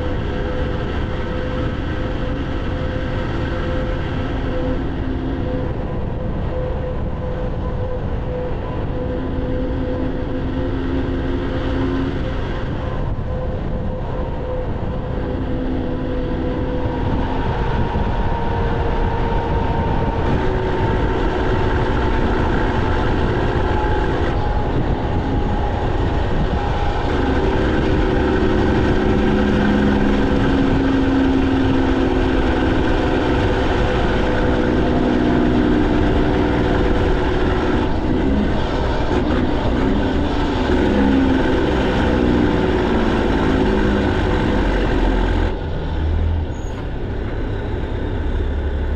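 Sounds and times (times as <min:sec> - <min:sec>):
loud diesel truck engine running: 0:00.0 - 0:48.9.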